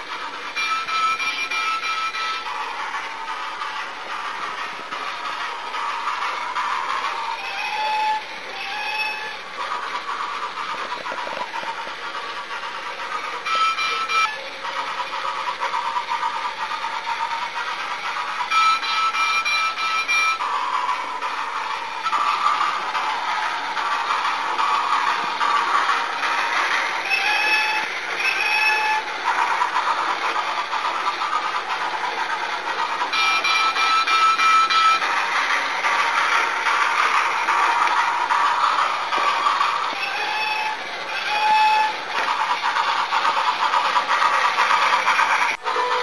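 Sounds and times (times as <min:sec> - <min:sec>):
toy roller coaster clattering: 0:00.0 - 0:46.0.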